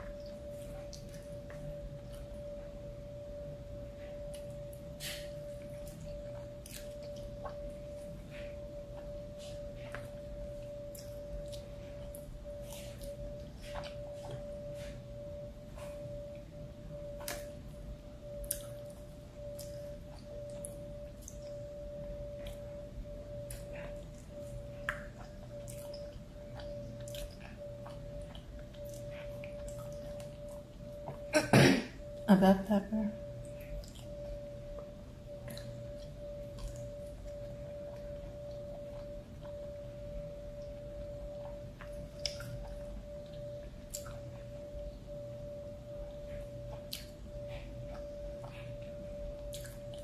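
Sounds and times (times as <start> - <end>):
faint hum: 0.0 - 50.0
steady high-pitched tone: 0.0 - 50.0
chewing and mouth noises: 4.1 - 16.5, 18.2 - 31.3, 33.4 - 44.7, 46.3 - 50.0.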